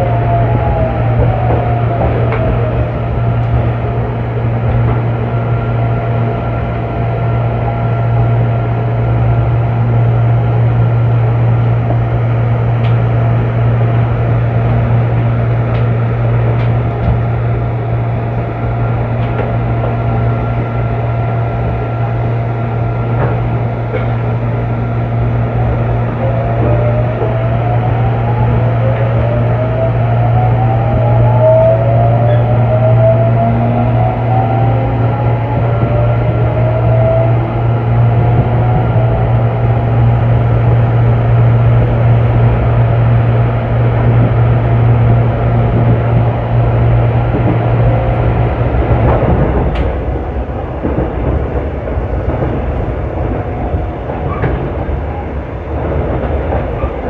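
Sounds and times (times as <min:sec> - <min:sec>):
electric train humming: 0:00.0 - 0:57.0
train motor whine: 0:00.0 - 0:57.0.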